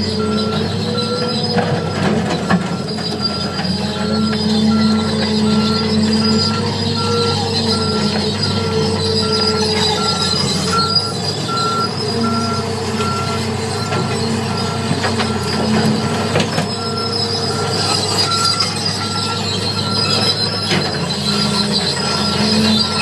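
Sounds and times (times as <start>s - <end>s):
diesel earthmoving machinery running: 0.0s - 23.0s.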